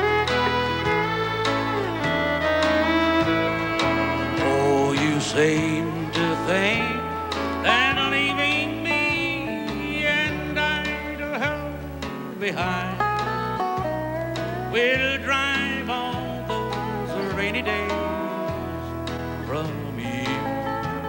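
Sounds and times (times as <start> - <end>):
sliding lead melody: 0.0 - 21.0
steady bass notes: 0.0 - 21.0
strummed acoustic guitar: 0.0 - 21.0.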